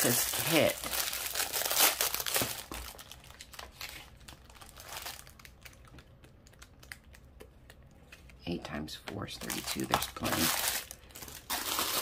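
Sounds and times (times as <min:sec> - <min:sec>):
plastic bag crinkling: 0:00.0 - 0:07.3, 0:09.4 - 0:12.0.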